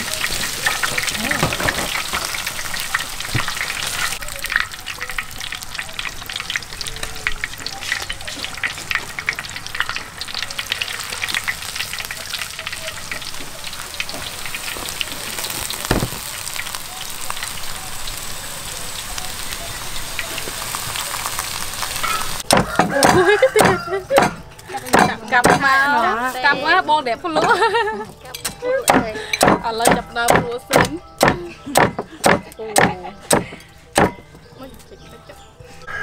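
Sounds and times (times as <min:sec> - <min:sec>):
pork deep-frying in oil: 0:00.0 - 0:26.8, 0:28.8 - 0:34.2.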